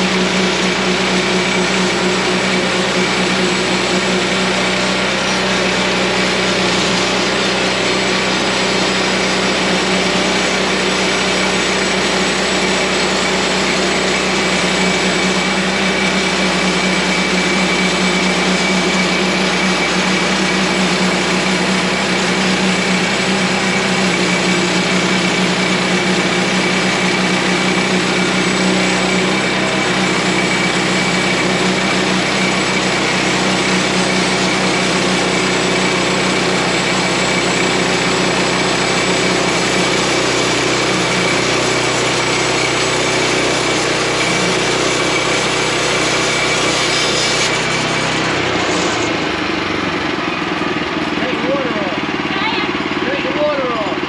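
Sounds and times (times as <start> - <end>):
band blade cutting a log: 0.0 - 49.8
sawmill gas engine running: 0.0 - 54.0.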